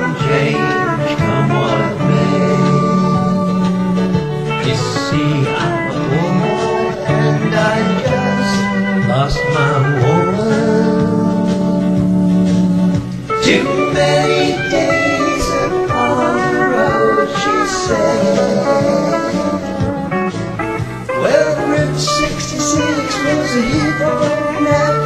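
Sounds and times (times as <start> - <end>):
country-rock band music: 0.0 - 25.0.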